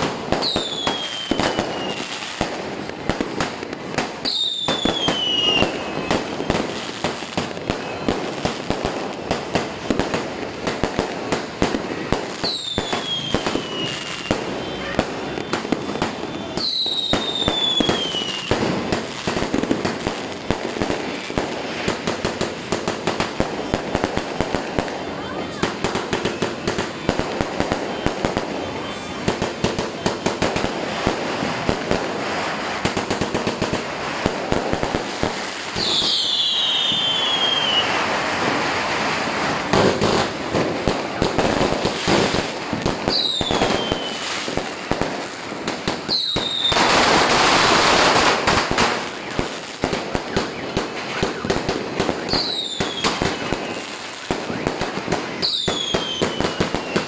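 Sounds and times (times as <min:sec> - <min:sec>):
fireworks bangs and crackling: 0:00.0 - 0:57.0
whistling fireworks: 0:00.0 - 0:57.0.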